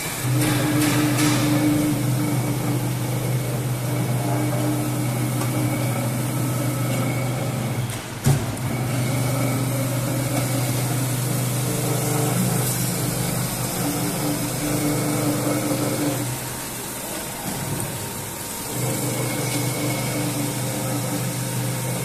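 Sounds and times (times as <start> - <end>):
grinding machine motor hum: 0.0 - 22.0.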